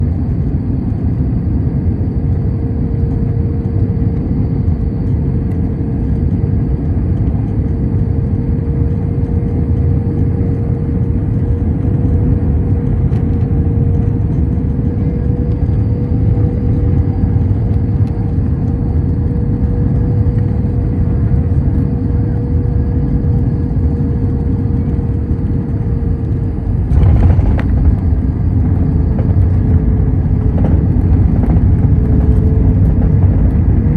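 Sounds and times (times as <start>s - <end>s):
airliner engine rumble: 0.0s - 33.9s
constant hum: 0.0s - 33.9s.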